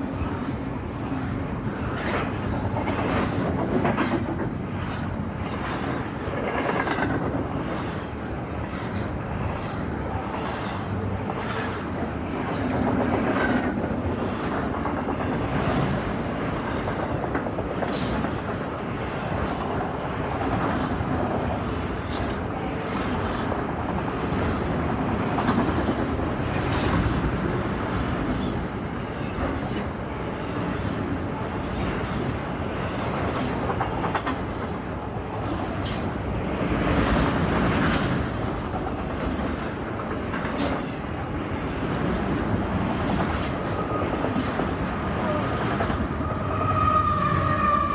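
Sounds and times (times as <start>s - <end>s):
freight train cars rumbling: 0.0s - 47.9s.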